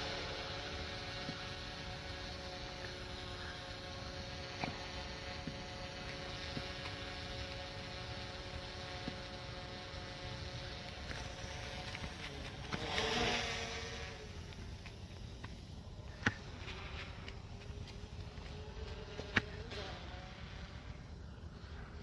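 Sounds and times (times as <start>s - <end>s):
drone propellers humming: 0.0s - 22.0s.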